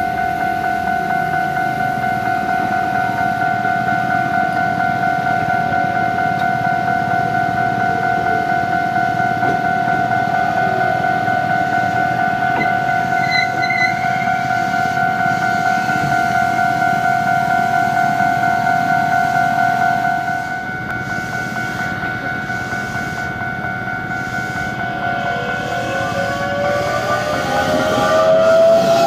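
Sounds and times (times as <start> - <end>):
approaching train: 0.0 - 29.0
two-tone level crossing alarm: 0.0 - 29.0.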